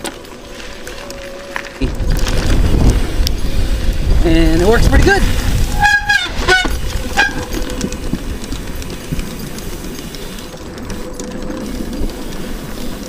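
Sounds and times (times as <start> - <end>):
bike rolling over wooden boardwalk: 0.0 - 13.0.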